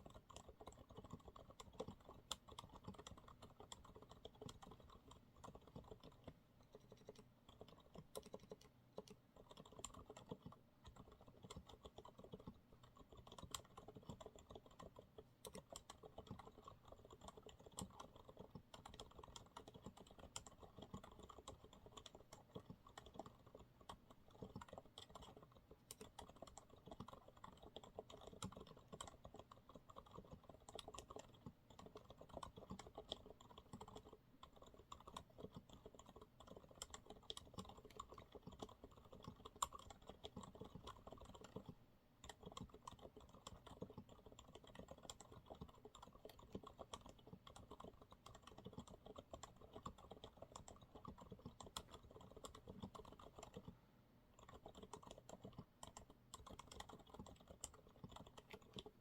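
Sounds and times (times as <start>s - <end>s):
quiet keyboard typing: 0.0s - 59.0s.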